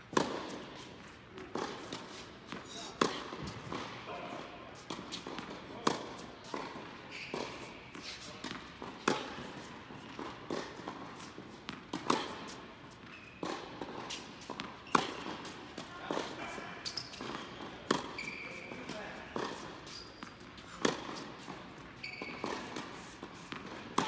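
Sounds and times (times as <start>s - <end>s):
racket hitting tennis ball: 0.1s - 24.0s
tennis ball bouncing on court: 0.1s - 24.0s.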